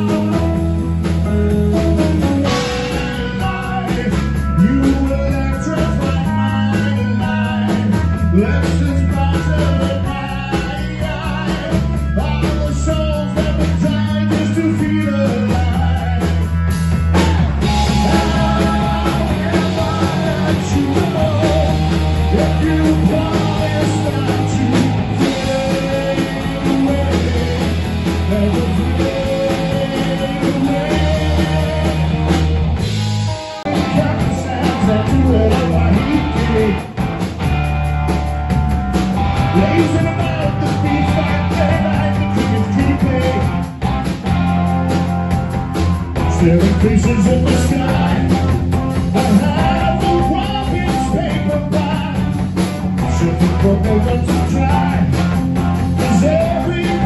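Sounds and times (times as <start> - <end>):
bass guitar: 0.0 - 57.0
drum kit: 0.0 - 57.0
electric guitars: 0.0 - 57.0
man singing into a microphone: 2.4 - 32.3, 33.6 - 36.9, 39.5 - 43.6, 46.2 - 52.4, 53.0 - 55.2, 56.0 - 57.0.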